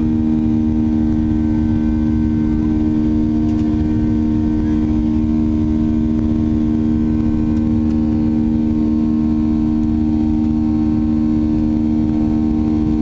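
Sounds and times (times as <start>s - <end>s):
dense low rumble: 0.0s - 13.0s
jet engines droning in cabin: 0.0s - 13.0s
steady engine tones: 0.0s - 13.0s.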